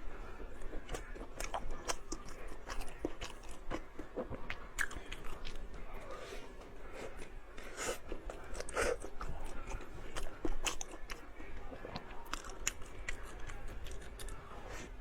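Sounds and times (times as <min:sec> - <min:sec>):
person chewing crunchy food: 0:00.4 - 0:15.0.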